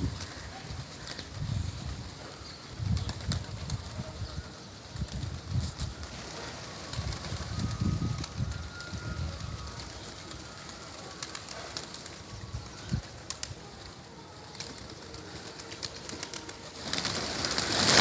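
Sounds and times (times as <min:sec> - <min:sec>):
pigeons cooing: 0:02.0 - 0:18.0.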